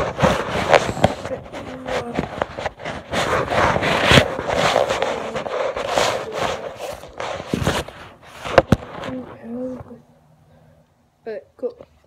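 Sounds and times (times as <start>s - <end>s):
fingers rubbing on microphone: 0.0s - 10.0s.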